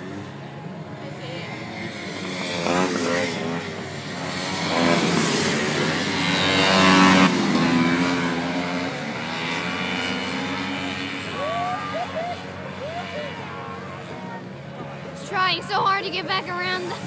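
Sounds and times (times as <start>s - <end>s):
snowmobile engines revving: 0.0s - 17.0s.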